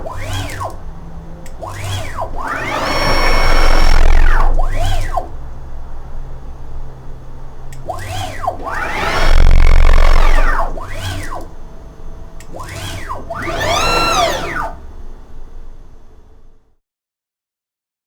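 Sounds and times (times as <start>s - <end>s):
stepper motors whining: 0.0s - 16.6s.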